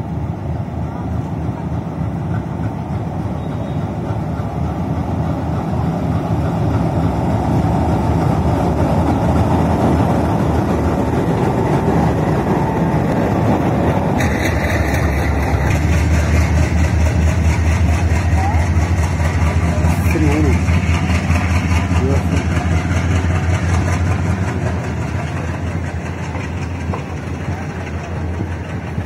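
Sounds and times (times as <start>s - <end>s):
diesel locomotive engines: 0.0s - 29.0s
train wheels clattering over rails: 1.2s - 29.0s.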